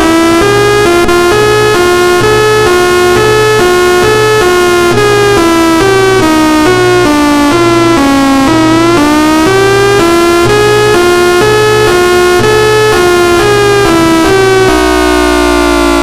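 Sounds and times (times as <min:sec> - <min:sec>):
synthesizer playing held notes: 0:00.0 - 0:16.0.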